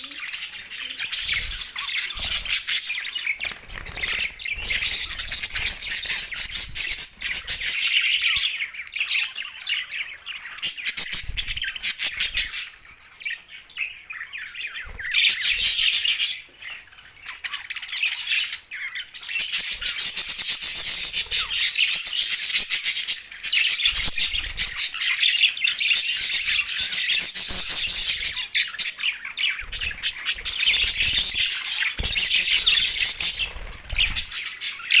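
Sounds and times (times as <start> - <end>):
budgerigars chattering: 0.0 - 35.0.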